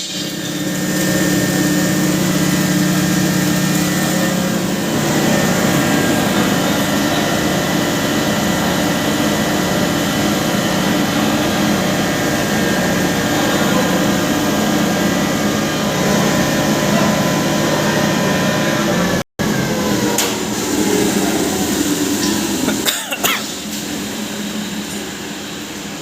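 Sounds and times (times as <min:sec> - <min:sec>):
grinding machine humming: 0:00.0 - 0:26.0.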